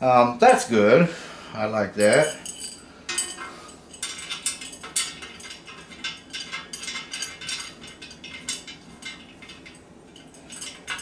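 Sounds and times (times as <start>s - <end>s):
metal tubes clinking: 2.0s - 11.0s.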